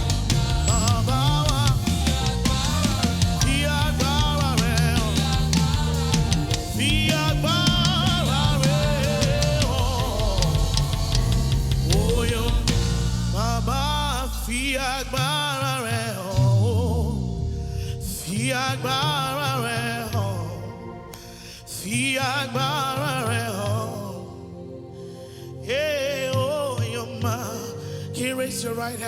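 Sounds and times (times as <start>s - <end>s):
gospel band with drums and bass: 0.0s - 29.0s
person singing with vibrato: 0.0s - 29.0s.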